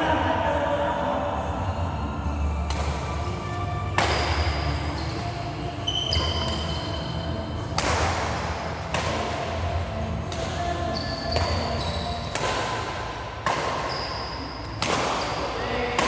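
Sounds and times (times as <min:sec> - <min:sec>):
badminton racket hitting shuttlecock: 0:02.7 - 0:16.0.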